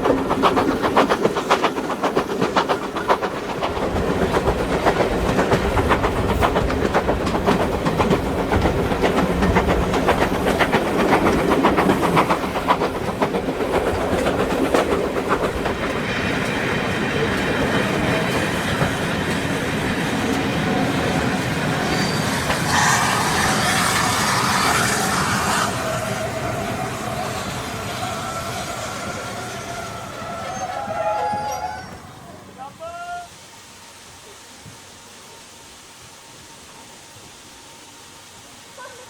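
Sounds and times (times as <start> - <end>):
train wheels clattering: 0.0 - 32.2.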